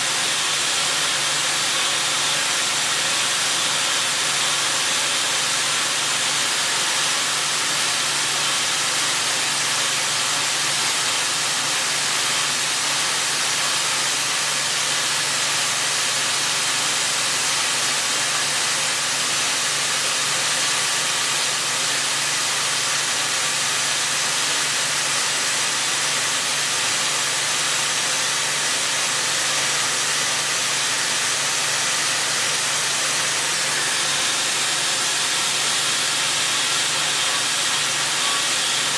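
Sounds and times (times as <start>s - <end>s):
milling machine running: 0.0s - 38.9s.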